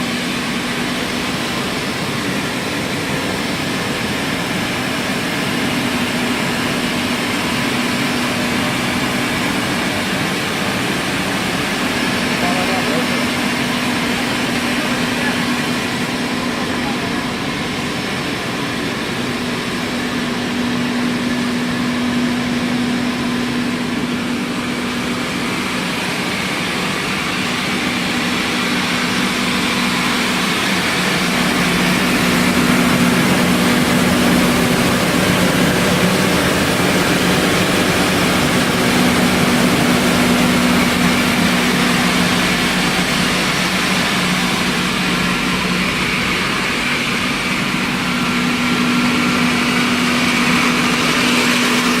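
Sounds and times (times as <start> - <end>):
washing machine running: 0.0 - 52.0.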